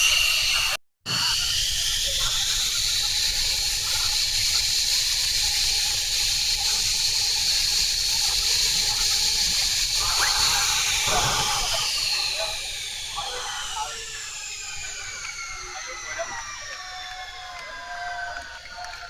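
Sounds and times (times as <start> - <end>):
jet engine roar: 0.0 - 19.0
turbine whine rising: 0.0 - 19.0.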